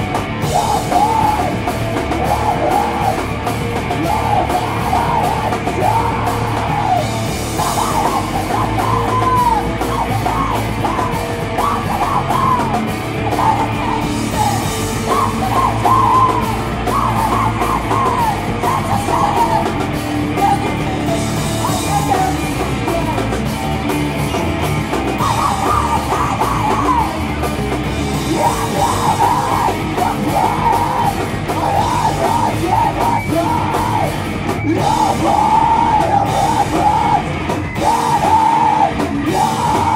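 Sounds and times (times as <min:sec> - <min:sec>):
band playing heavy rock: 0:00.0 - 0:39.9
vocalist screaming into microphone: 0:00.4 - 0:23.4, 0:25.2 - 0:27.4, 0:28.1 - 0:39.9.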